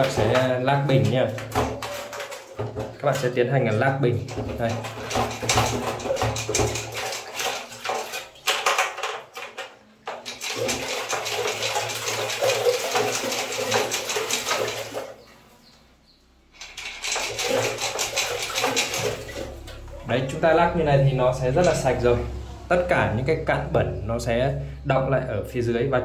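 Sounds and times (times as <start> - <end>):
water sloshing in a tank: 0.0 - 26.0.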